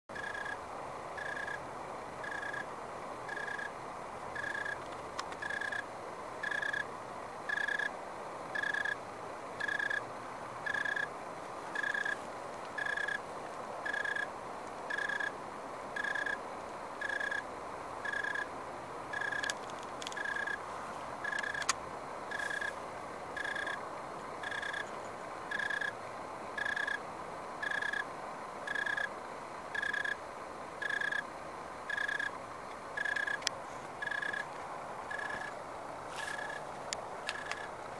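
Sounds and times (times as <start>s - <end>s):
cricket chirping: 0.1s - 37.9s.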